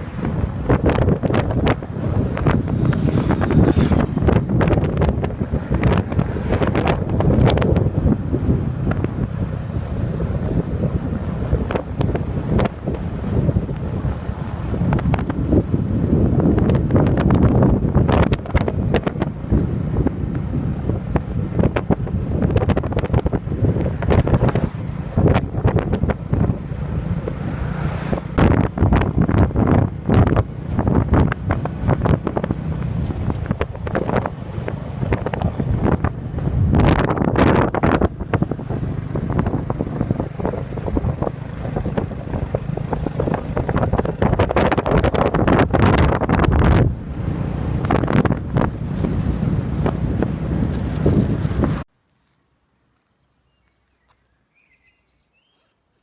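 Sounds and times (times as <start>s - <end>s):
motorcycle engine drone: 0.0s - 51.9s
wind buffeting microphone: 0.0s - 51.9s.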